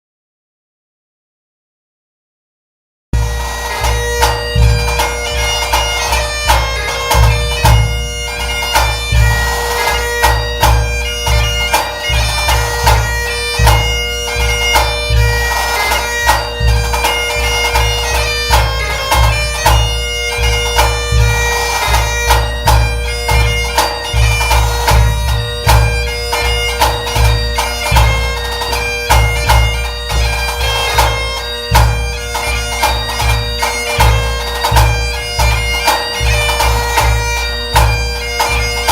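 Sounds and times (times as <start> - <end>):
bagpipe playing a tune: 3.2 - 38.9.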